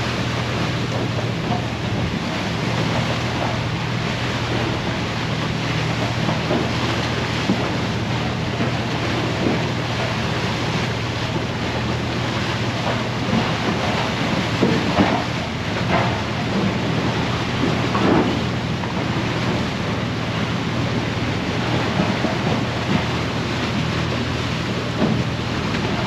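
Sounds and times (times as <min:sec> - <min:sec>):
ship engines droning: 0:00.0 - 0:26.0
water and ice rushing along hull: 0:00.0 - 0:26.0.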